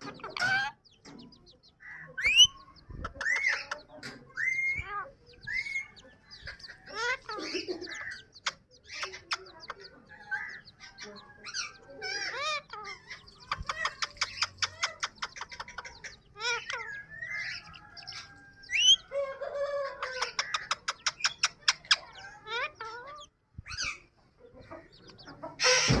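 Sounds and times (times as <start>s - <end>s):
parakeet chattering: 0.0s - 19.2s, 19.9s - 26.0s.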